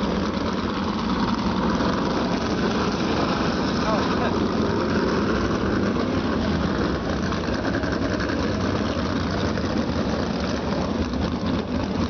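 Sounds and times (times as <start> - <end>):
race car engines idling: 0.0 - 12.0.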